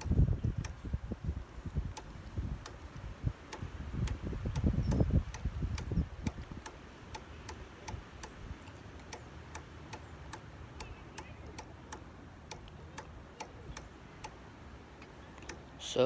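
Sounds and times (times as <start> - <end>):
sharp ticking: 1.8 - 16.0.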